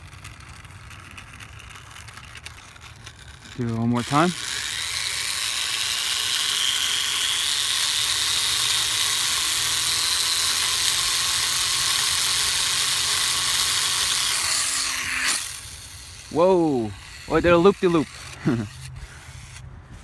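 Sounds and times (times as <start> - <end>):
toy plane propeller whirring: 0.0 - 20.0.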